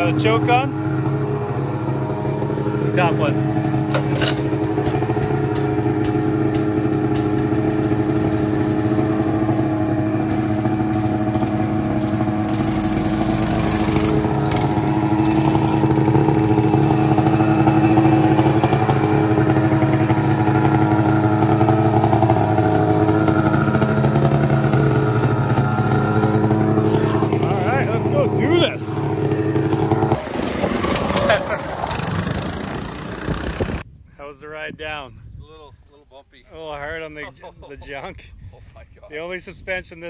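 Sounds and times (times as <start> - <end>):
mini bike engine running: 0.0 - 33.8
snowmobile engine idling: 0.0 - 33.8.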